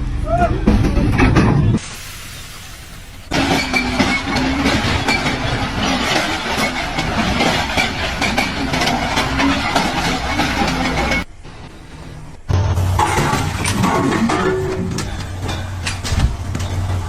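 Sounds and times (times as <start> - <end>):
faint steady hum: 0.0 - 17.0
heavy machinery rattling: 0.0 - 17.0.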